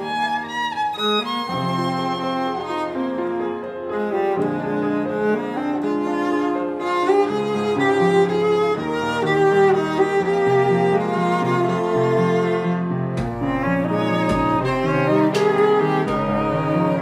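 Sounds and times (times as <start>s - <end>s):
string quartet with piano: 0.0s - 17.0s
violin melody: 0.0s - 17.0s.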